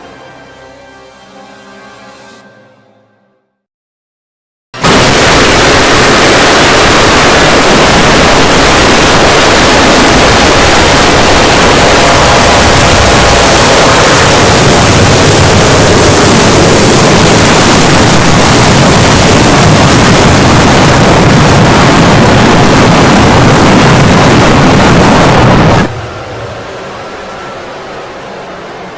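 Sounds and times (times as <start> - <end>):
loud distorted noise blast: 4.8 - 28.9.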